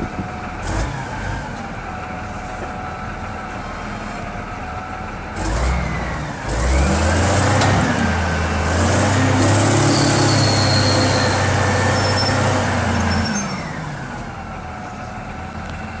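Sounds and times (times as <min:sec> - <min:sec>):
heavy vehicle engine revving: 0:00.0 - 0:16.0.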